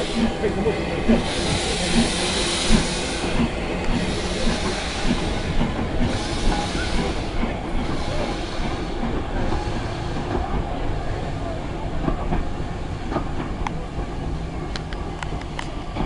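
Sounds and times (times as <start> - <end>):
steam locomotive hissing: 0.0 - 16.0
train wheels rumbling and clicking: 0.0 - 16.0.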